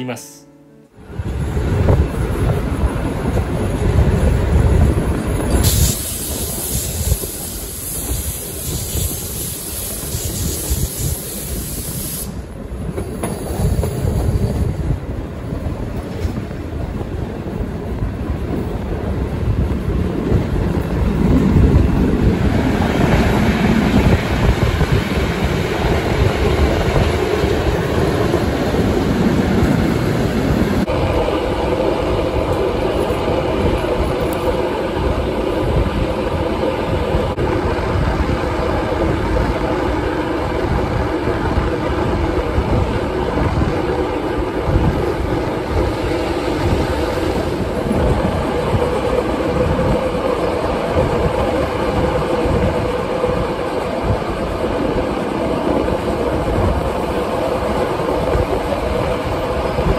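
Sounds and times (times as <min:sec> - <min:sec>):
train wheels rumbling on track: 0:01.0 - 0:59.9.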